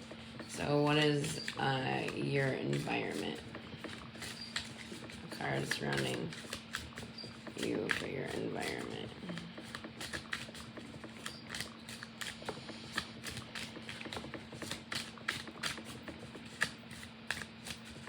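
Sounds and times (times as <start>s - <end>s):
cards being shuffled: 0.0s - 18.0s.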